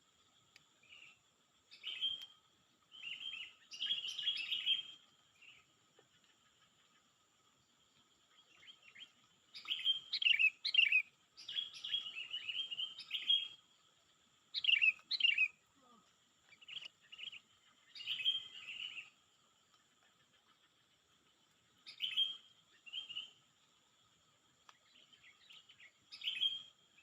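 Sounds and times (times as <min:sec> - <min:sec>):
bird chirping: 0:00.5 - 0:24.1, 0:24.7 - 0:27.0.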